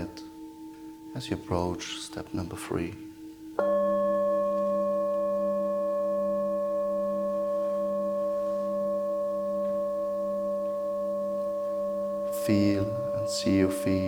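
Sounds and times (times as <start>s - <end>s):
singing bowl ringing: 0.0s - 14.0s.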